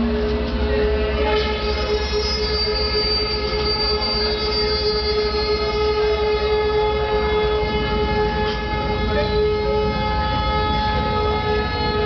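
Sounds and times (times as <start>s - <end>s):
droning held tones: 0.0s - 12.0s.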